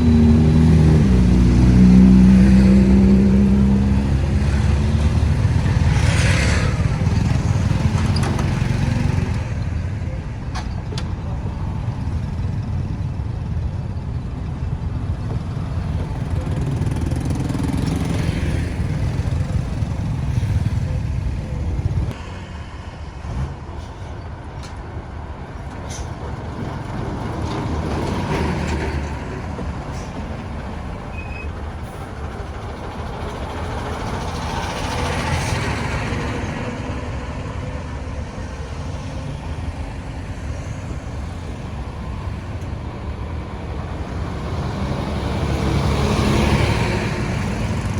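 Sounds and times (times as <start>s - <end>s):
road traffic rumble: 0.0s - 47.9s.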